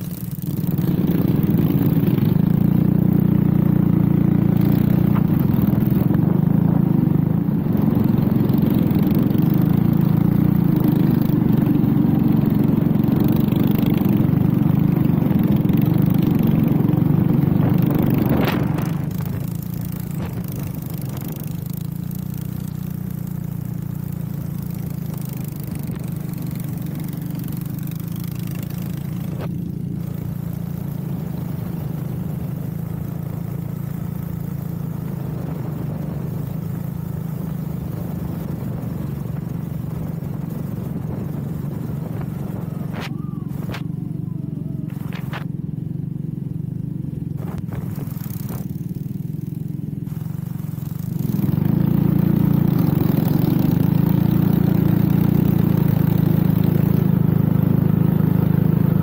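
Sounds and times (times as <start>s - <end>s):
small engine running hard: 0.0s - 59.0s.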